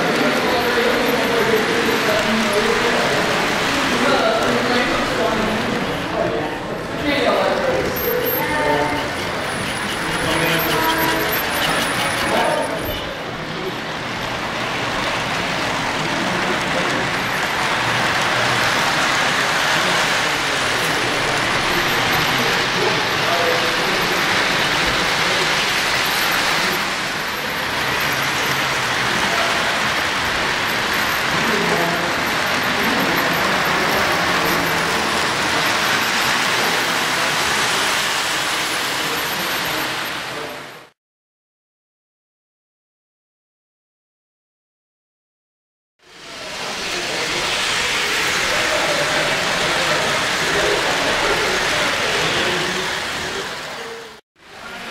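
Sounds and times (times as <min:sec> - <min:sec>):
model train rumbling and clattering: 0:00.0 - 0:40.7, 0:46.1 - 0:53.8.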